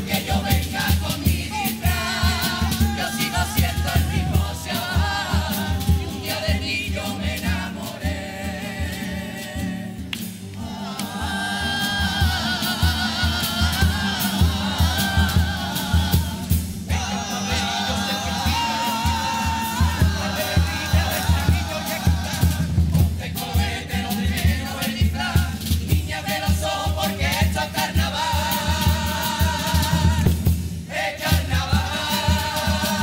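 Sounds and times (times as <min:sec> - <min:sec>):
steady drum beat: 0:00.0 - 0:10.4, 0:11.0 - 0:33.0
choir singing: 0:00.0 - 0:33.0.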